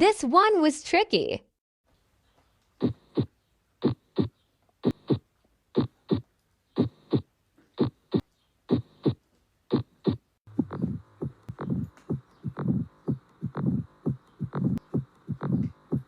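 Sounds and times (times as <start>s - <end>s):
heartbeat lub-dub: 2.8s - 16.0s.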